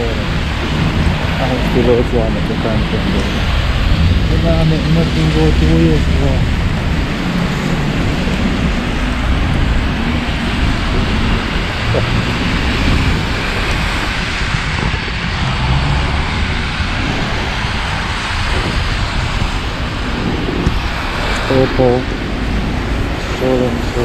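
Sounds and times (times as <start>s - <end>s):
heavy rain on a street: 0.0s - 24.0s
low traffic rumble: 0.0s - 24.0s.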